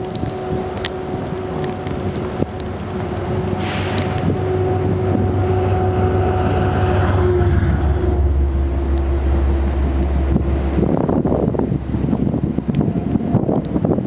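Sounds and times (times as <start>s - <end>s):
train running past: 0.0s - 14.0s.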